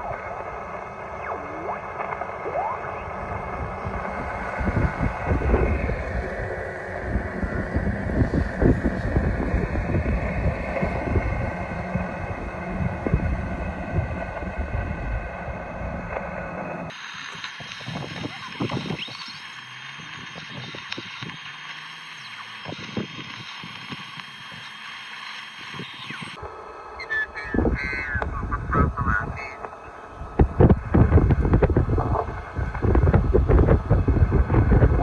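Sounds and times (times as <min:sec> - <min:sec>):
shortwave radio static: 0:00.0 - 0:35.0
weak radio signal: 0:00.0 - 0:35.0.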